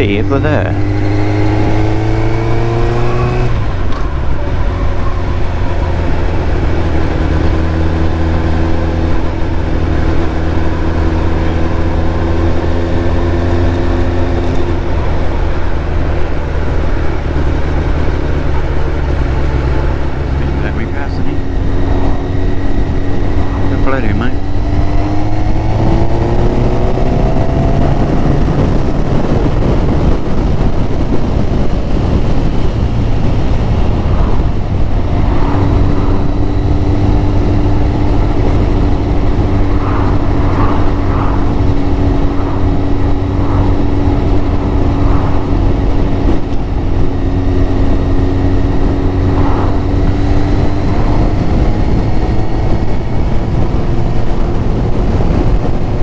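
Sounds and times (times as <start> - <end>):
motorcycle engine running: 0.0 - 56.0
wind rush over microphone: 0.0 - 56.0.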